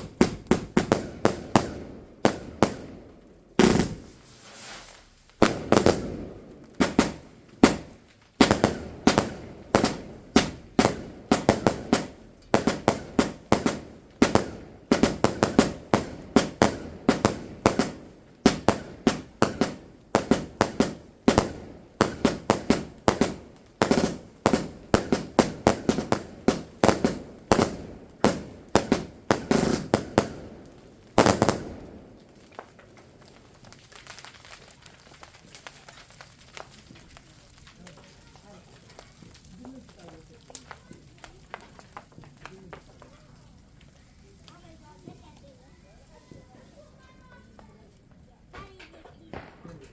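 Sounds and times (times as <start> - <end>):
fireworks banging: 0.0 - 49.9.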